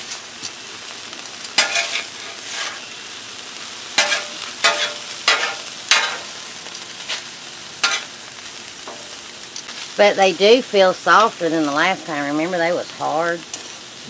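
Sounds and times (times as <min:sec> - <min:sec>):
oil sizzling on a griddle: 0:00.0 - 0:14.0.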